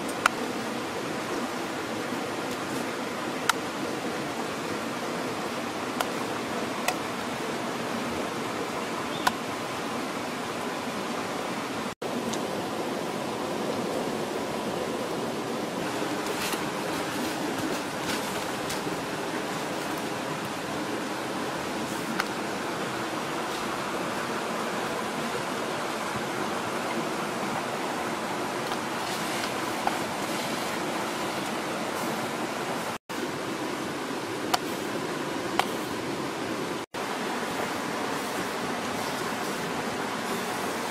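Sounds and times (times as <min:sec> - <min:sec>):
rushing background hiss: 0:00.0 - 0:40.9.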